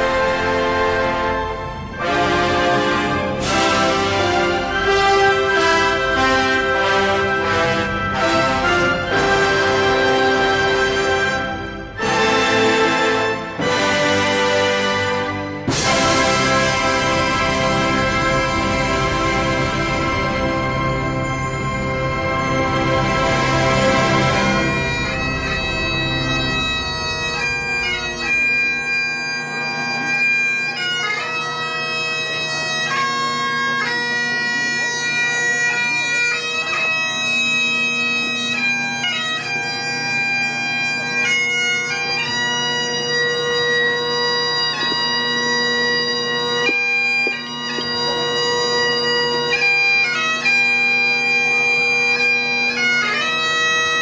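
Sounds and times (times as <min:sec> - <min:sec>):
bagpipe music: 0:00.0 - 0:54.0.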